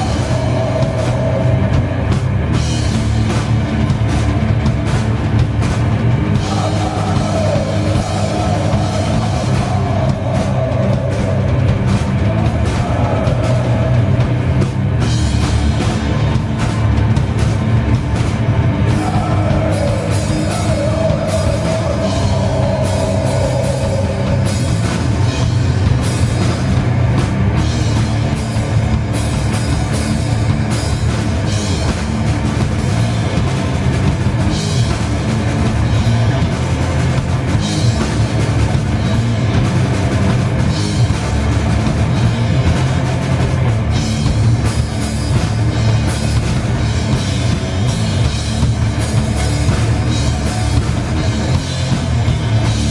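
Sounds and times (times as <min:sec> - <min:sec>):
heavy metal band playing live: 0:00.0 - 0:52.9.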